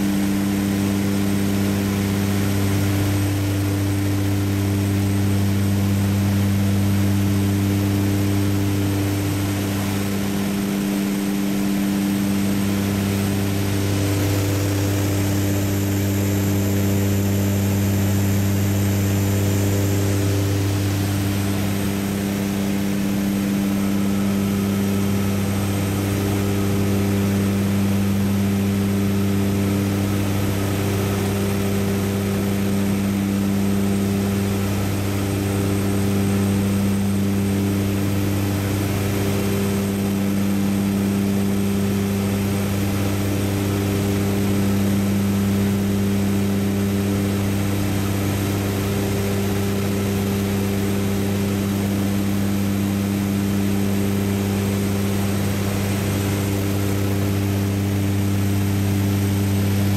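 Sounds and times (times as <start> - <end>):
propeller aircraft engine drone: 0.0 - 59.9.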